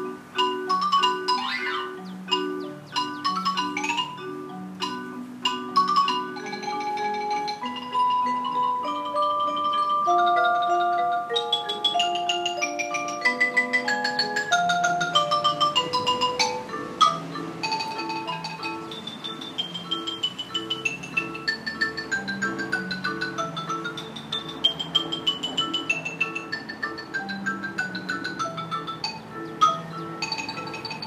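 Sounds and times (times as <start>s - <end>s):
marimba ensemble playing: 0.0s - 31.0s.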